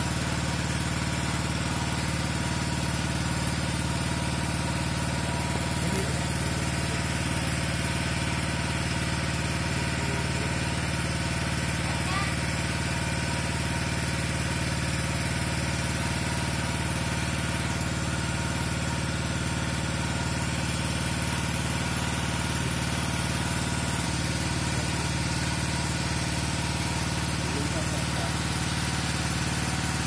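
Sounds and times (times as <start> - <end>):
petrol water pump running: 0.0 - 30.0.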